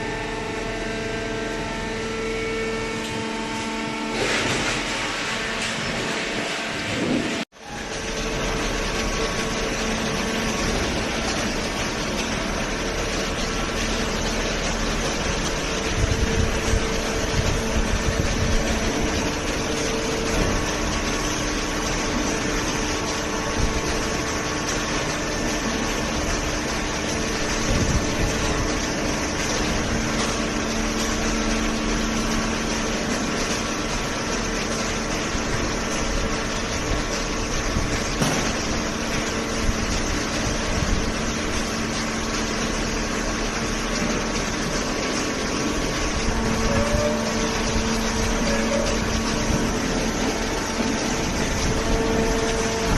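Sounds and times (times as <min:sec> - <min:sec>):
baler motor and pump humming: 0:00.0 - 0:52.9.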